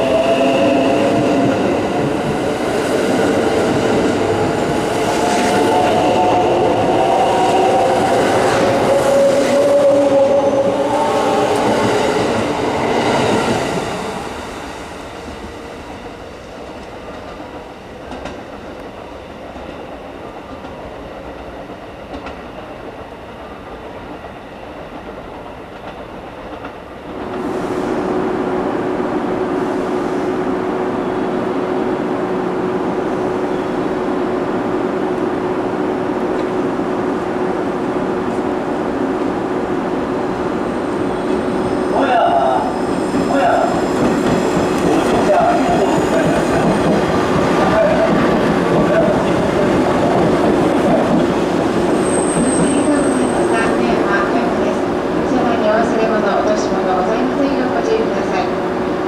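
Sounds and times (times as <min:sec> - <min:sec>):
train wheel noise: 0:00.0 - 0:28.0, 0:36.0 - 0:59.0
approaching train hum: 0:00.0 - 0:59.0.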